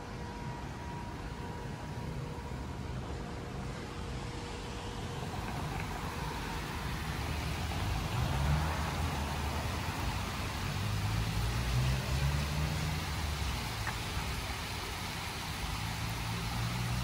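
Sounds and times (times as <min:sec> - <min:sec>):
street traffic rushing: 0:00.0 - 0:17.0
fountain water flowing: 0:00.3 - 0:17.0.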